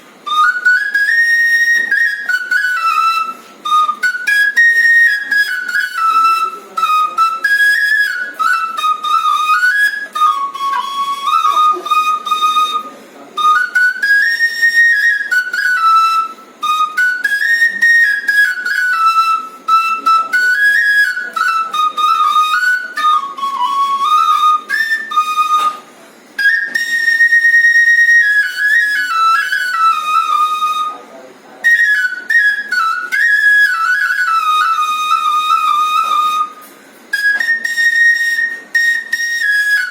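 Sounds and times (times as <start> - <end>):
bamboo flute melody: 0.0 - 39.9.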